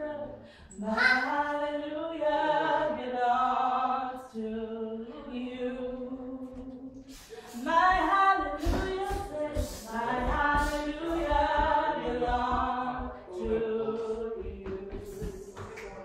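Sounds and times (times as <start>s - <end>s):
women singing gospel a cappella: 0.0s - 16.0s.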